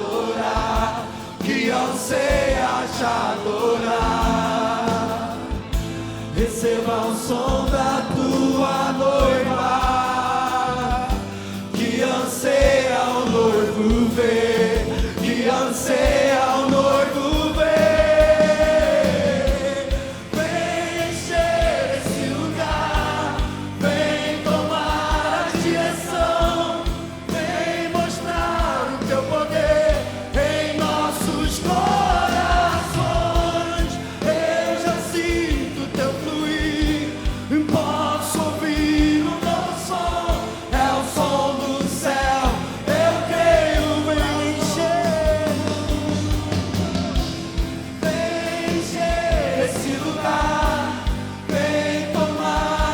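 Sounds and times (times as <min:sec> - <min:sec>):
band with drum beat: 0:00.0 - 0:52.9
people singing worship song: 0:00.0 - 0:52.9.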